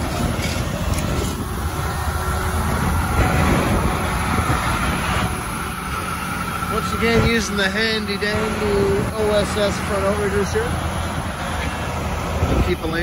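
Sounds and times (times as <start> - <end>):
diesel pump truck rumbling: 0.0 - 13.0.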